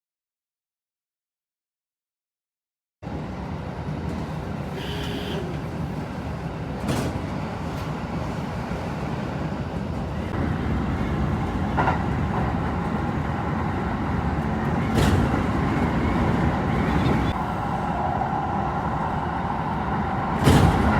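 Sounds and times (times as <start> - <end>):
electric train running rumble: 3.0 - 20.9.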